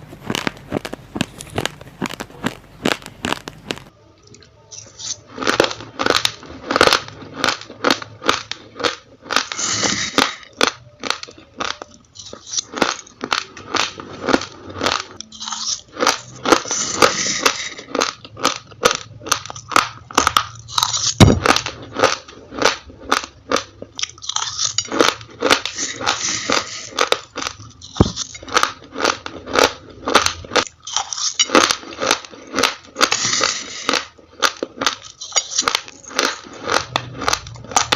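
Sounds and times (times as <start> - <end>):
chewing raw rice crunches: 0.0 - 37.9.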